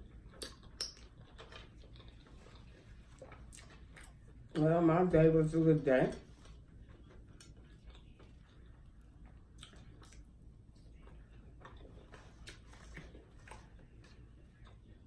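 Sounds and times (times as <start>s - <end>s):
chewing food: 0.0s - 5.4s, 6.0s - 15.0s.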